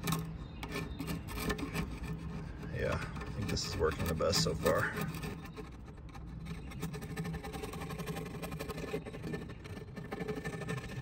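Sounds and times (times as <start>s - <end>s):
chisel scraping ceramic rim: 0.0s - 11.0s.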